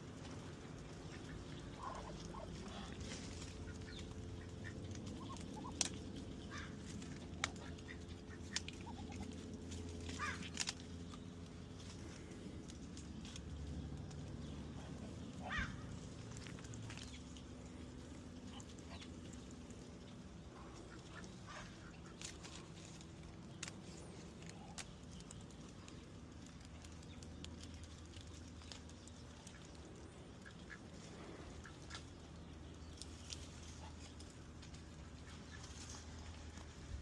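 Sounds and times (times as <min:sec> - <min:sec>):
steady low hum: 0:00.0 - 0:37.0
poultry calling: 0:00.1 - 0:13.1, 0:14.4 - 0:24.8, 0:28.2 - 0:37.0.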